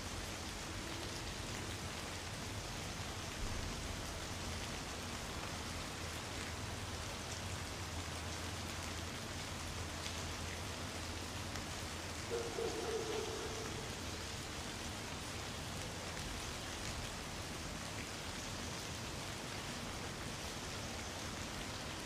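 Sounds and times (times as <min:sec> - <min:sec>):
light rain hissing: 0:00.0 - 0:22.0.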